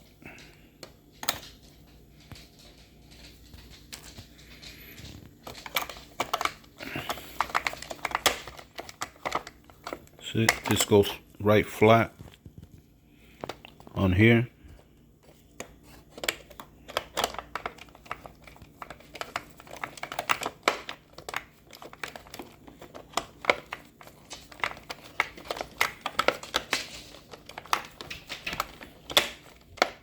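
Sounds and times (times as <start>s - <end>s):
plastic parts clicking and rattling: 0.2s - 11.2s, 13.4s - 30.0s.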